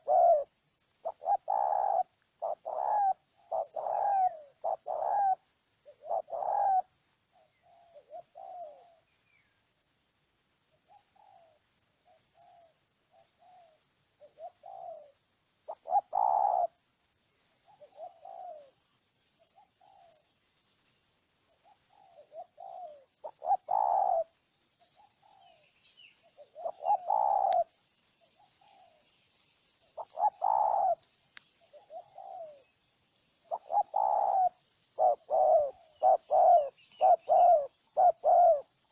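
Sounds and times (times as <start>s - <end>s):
dove cooing: 0.0s - 9.0s, 10.9s - 16.8s, 17.6s - 18.8s, 21.5s - 25.6s, 26.2s - 29.1s, 29.9s - 32.8s, 33.4s - 38.9s
small birds chirping faintly: 0.0s - 38.9s.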